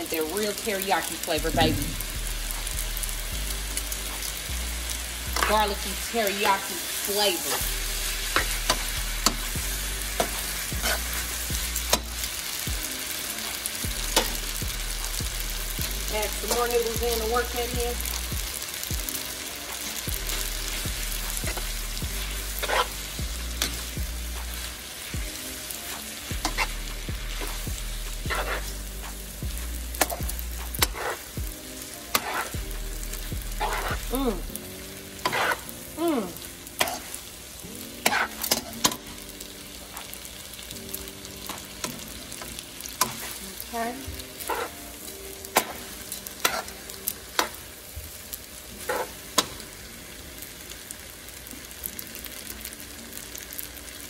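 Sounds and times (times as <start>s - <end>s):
noodles sizzling in a pan: 0.0s - 54.0s.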